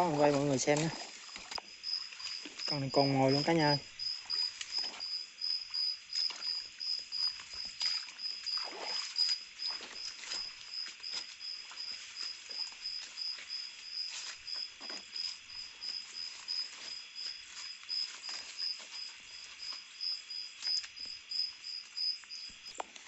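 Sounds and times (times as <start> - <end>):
insect pulsed trill: 0.0 - 22.8
light footsteps through undergrowth: 0.0 - 23.0
rustling in undergrowth: 0.0 - 23.0.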